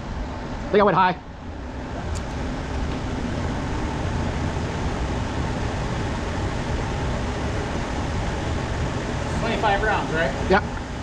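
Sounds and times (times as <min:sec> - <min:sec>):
low rushing noise: 0:00.0 - 0:11.0.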